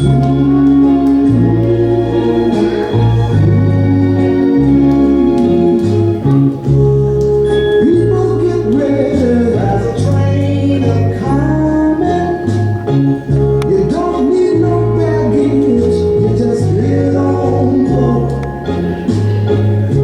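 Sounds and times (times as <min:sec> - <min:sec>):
gospel singing: 0:00.0 - 0:20.0
instrumental notes and bass: 0:00.0 - 0:20.0.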